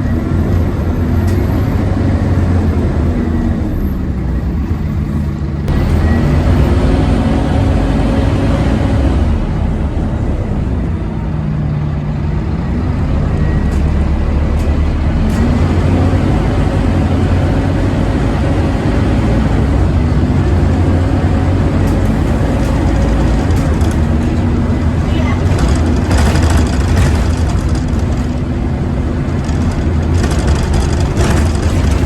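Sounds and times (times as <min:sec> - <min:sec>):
bus engine running: 0:00.0 - 0:32.0.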